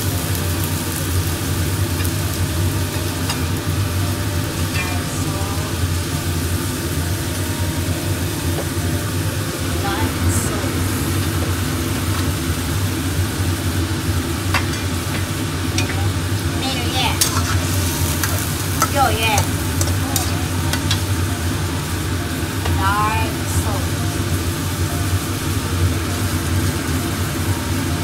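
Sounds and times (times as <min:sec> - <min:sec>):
tofu sizzling in oil: 0:00.0 - 0:28.0
steady low hum: 0:01.4 - 0:27.6.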